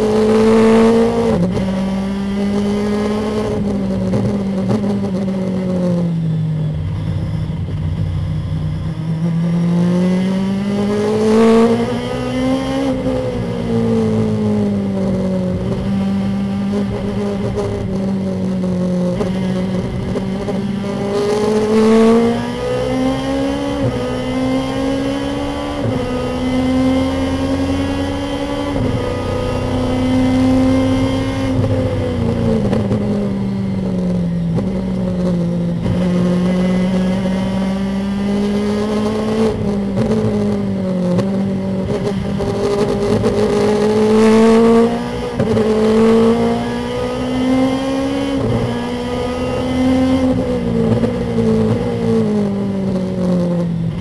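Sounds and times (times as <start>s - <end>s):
race car engine with gear shifts: 0.0s - 54.0s.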